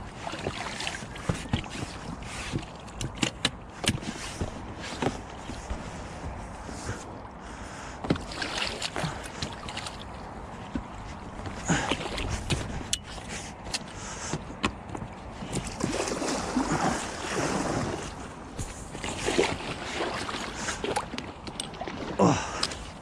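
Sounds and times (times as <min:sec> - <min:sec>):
oars splashing in water: 0:00.0 - 0:23.0
water noise: 0:00.0 - 0:23.0.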